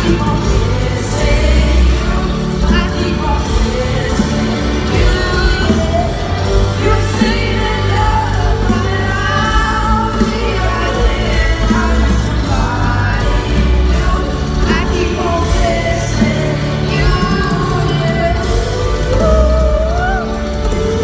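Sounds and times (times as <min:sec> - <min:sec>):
live pop band with vocals: 0:00.0 - 0:21.0.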